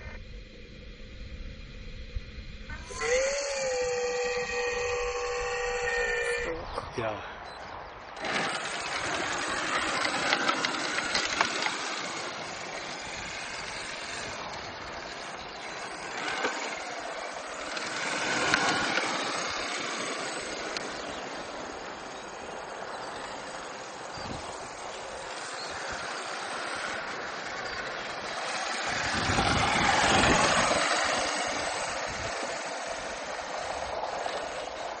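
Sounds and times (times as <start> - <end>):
electric motor and gear whine: 0.0 - 35.0.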